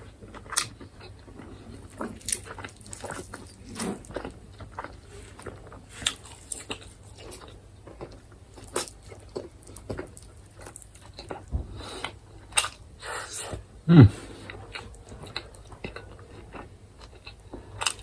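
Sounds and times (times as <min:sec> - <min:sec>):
person chewing chicken: 0:00.0 - 0:18.0.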